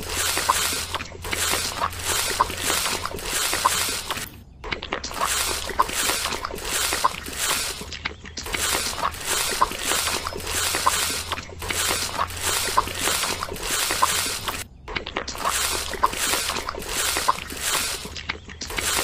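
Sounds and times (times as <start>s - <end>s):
trowel scraping wet mortar on metal: 0.0s - 4.3s, 5.1s - 14.6s, 15.4s - 19.0s.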